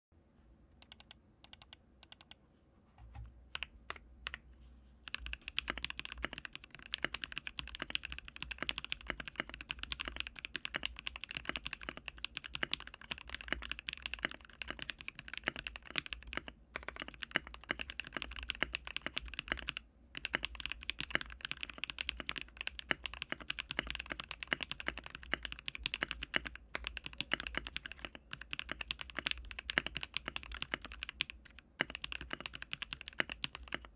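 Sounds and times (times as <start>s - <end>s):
typing on mechanical keyboard: 5.0s - 33.9s.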